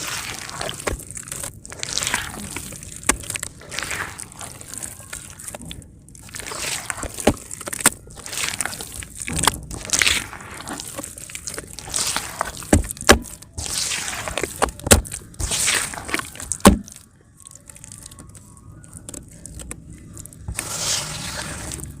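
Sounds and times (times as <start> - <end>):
clay fizzing in water: 0.0 - 18.4, 20.2 - 22.0
clay cracking and splashing: 0.0 - 22.0.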